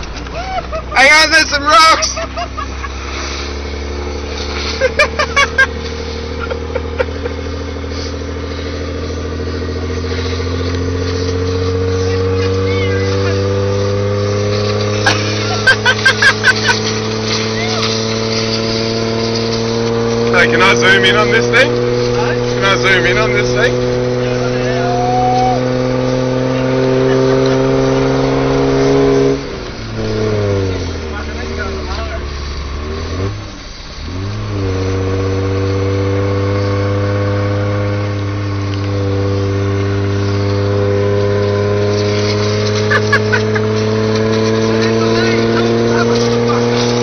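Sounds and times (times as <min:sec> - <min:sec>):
motorboat engine droning: 0:00.0 - 0:47.0.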